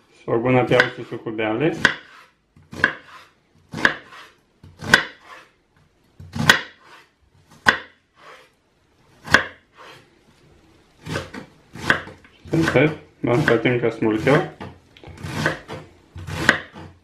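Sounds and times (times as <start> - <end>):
knife cutting onion on board: 0.6 - 5.6, 6.2 - 8.5, 9.2 - 10.0, 11.0 - 17.0.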